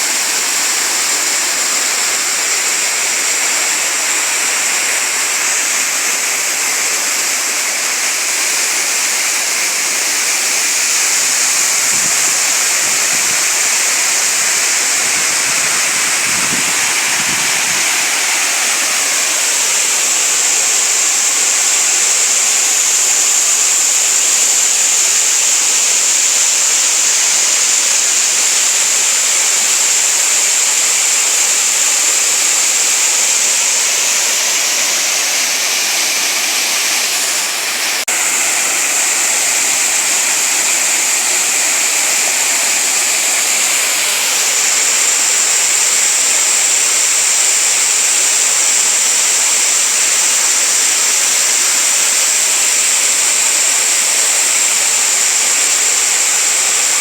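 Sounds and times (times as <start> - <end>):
waterfall and stream rushing: 0.0 - 57.0.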